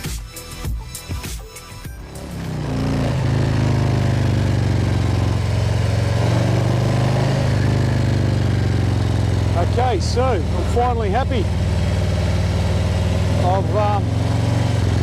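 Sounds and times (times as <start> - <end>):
motorcycle engine running: 1.9 - 15.0.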